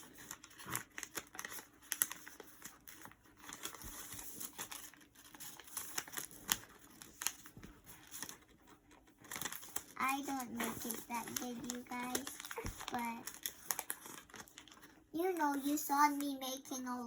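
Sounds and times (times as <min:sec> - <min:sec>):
paper crinkling and creasing: 0:00.0 - 0:16.4.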